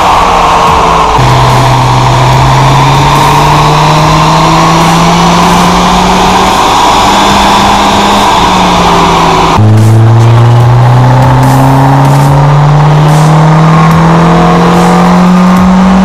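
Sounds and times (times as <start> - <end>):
car engine revving under load: 0.0 - 16.0.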